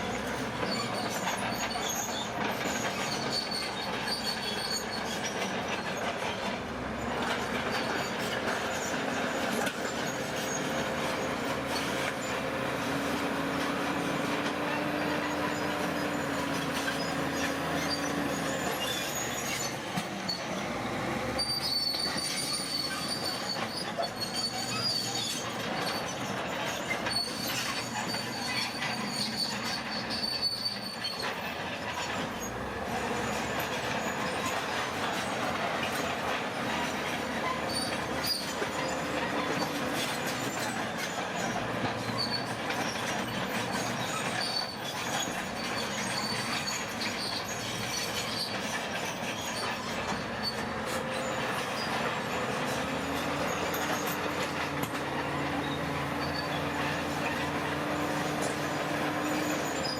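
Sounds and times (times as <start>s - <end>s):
diesel engine running: 0.0s - 30.2s, 31.3s - 59.9s
grinding clanking machinery: 0.1s - 59.9s
high metallic squeals: 0.1s - 59.9s.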